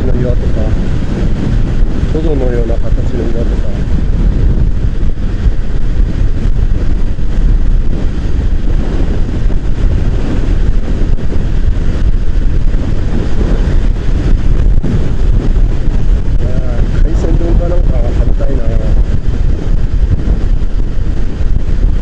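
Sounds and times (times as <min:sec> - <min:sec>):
motorcycle engine drone: 0:00.0 - 0:22.0
wind rush on microphone: 0:00.0 - 0:22.0.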